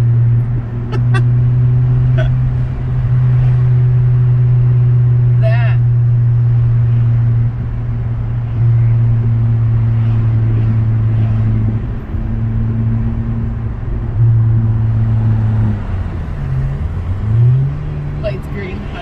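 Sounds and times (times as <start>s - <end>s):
deep car exhaust drone: 0.0s - 19.0s.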